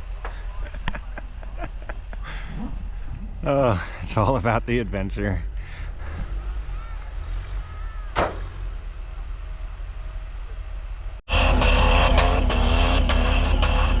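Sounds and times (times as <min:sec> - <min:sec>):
off-road engine running: 0:00.0 - 0:14.0.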